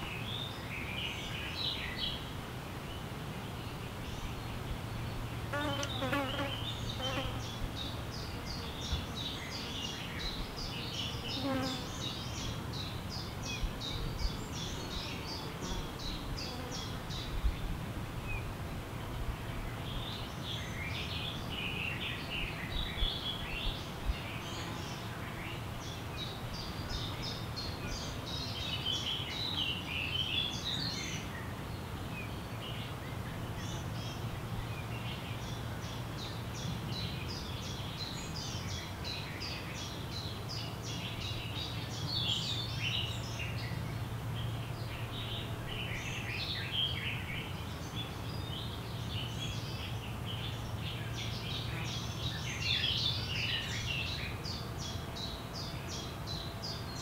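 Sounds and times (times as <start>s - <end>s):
birds singing: 0.0s - 57.0s.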